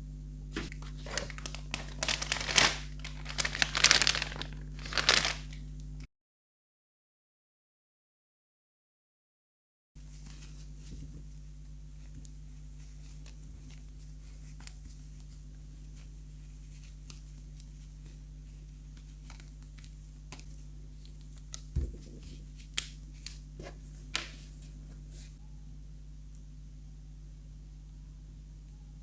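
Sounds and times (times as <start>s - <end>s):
steady low hum: 0.0s - 6.1s, 10.0s - 29.0s.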